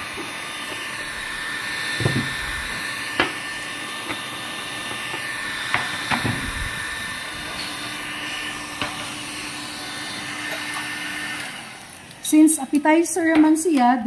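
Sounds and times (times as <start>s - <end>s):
heat gun blowing hiss: 0.0s - 13.3s.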